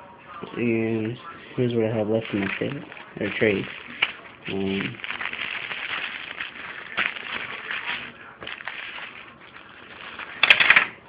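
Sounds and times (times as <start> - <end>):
rustling and crackling: 1.0 - 11.0.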